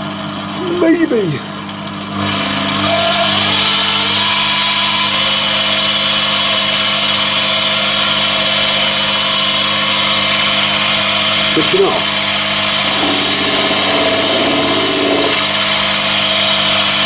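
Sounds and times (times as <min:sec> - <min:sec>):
lathe motor and gear whine: 0:02.1 - 0:17.0.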